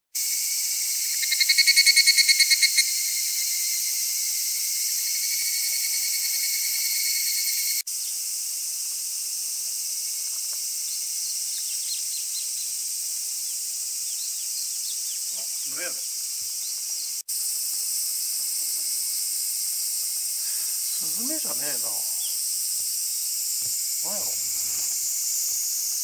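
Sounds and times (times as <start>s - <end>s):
cicadas and insects chorus: 0.2s - 26.0s
evening cicada pulsed call: 0.2s - 26.0s.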